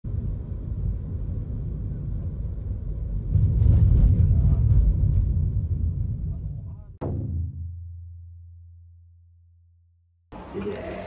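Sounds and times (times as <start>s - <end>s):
low steady rumbling: 0.0s - 10.2s.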